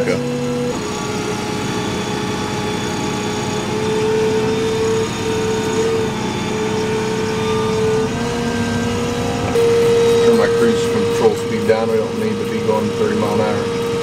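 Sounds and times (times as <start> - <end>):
tractor engine hum and whine: 0.0 - 14.0.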